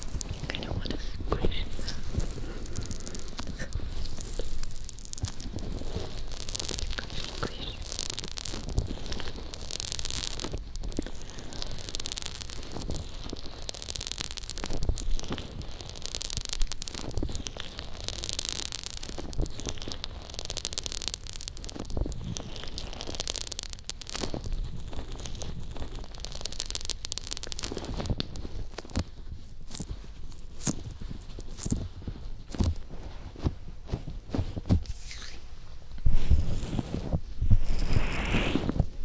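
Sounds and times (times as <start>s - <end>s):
small clicks: 0.0s - 33.1s
fingers rubbing fur microphone cover: 0.0s - 39.0s.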